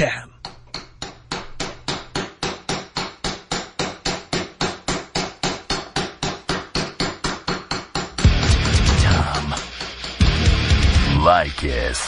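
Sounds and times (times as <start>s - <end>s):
hammer driving nails: 0.4s - 10.2s.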